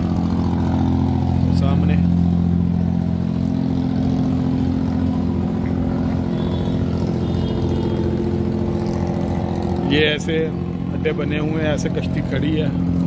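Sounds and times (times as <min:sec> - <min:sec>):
boat diesel engine droning: 0:00.0 - 0:13.0.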